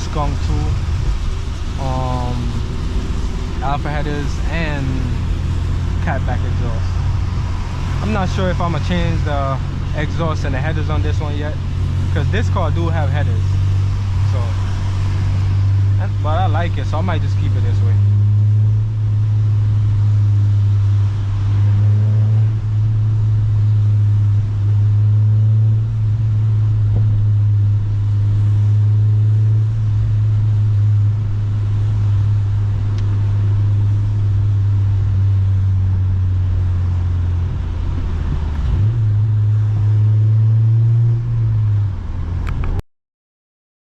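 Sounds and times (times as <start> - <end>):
car engine droning while driving: 0.0 - 42.8.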